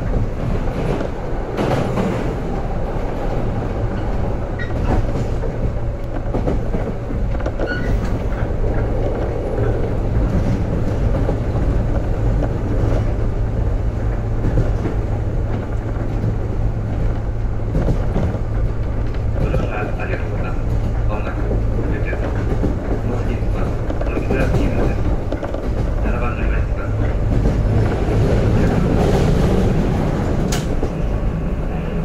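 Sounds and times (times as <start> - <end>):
train wheels rumbling on rail: 0.0 - 32.0
rail-joint clicks: 3.9 - 13.4, 14.0 - 31.2.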